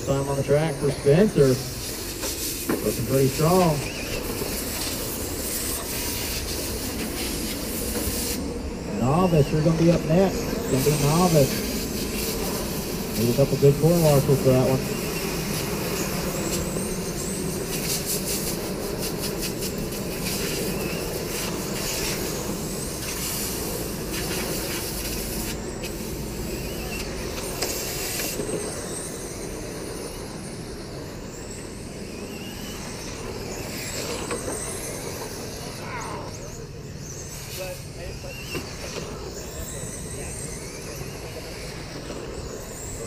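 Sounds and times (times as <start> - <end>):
radio-controlled cars whining: 0.0 - 43.0
steady background noise: 0.0 - 43.0.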